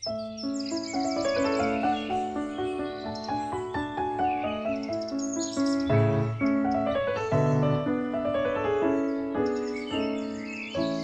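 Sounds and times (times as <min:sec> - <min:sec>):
piano melody: 0:00.0 - 0:11.0
low piano bass notes: 0:01.1 - 0:11.0.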